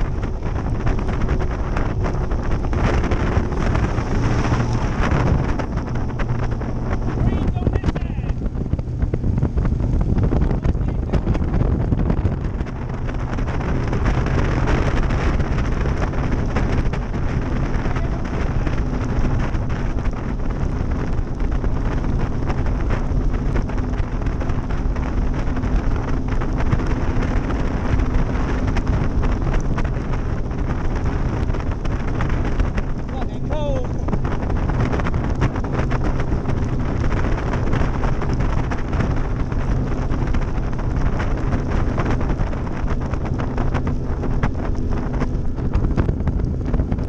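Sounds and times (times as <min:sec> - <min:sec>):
outboard motor hum: 0:00.0 - 0:47.0
wind buffeting microphone: 0:00.0 - 0:47.0.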